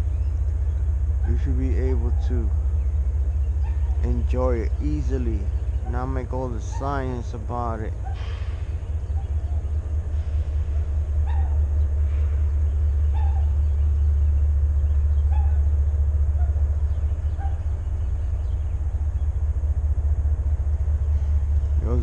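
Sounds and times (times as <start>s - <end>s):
faint bird chirps: 0.0s - 10.4s, 11.2s - 19.5s
low rumble: 0.0s - 22.0s.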